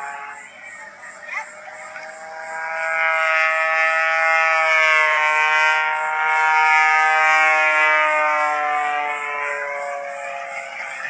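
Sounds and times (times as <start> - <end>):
plane engine drone overhead: 0.0 - 11.0.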